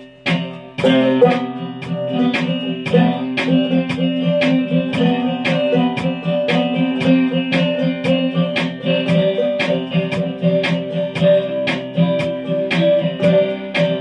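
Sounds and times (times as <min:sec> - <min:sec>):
slide guitar: 0:00.0 - 0:14.0.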